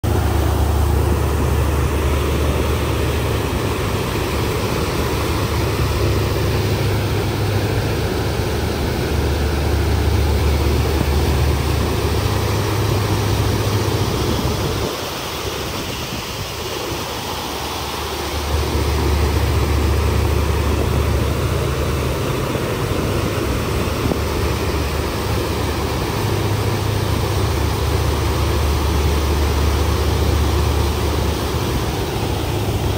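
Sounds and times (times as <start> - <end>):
boat engine rumble: 0.0 - 32.9
rush of churning wake: 0.0 - 32.9.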